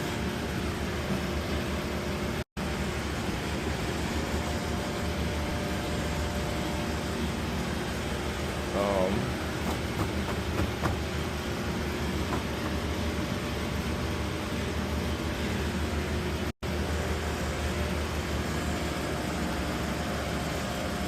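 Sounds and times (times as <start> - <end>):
machine hum with rushing air: 0.0 - 21.0.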